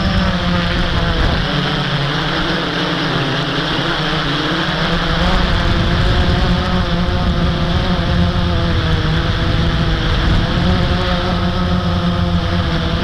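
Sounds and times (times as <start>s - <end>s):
drone propellers whirring: 0.0s - 13.0s
wind rumble on microphone: 0.0s - 13.0s.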